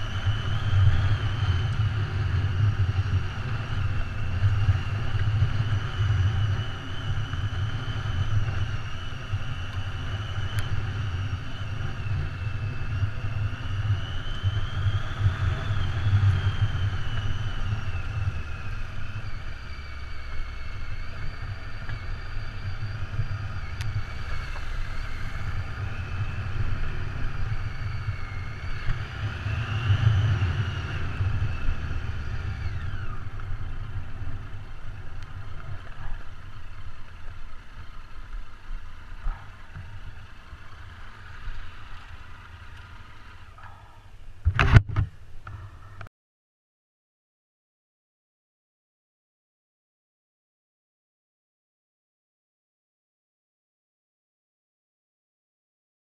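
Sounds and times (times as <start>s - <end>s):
motorcycle engine running: 0.0s - 46.1s.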